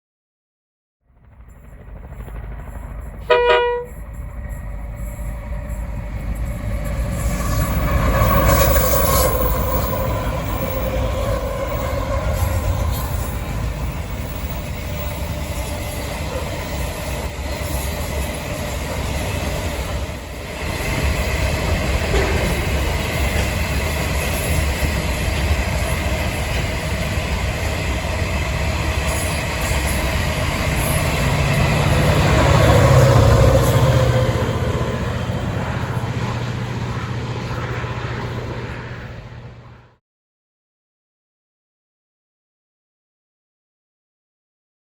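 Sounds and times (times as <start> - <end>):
train wheels rumbling on rails: 1.2 - 40.0.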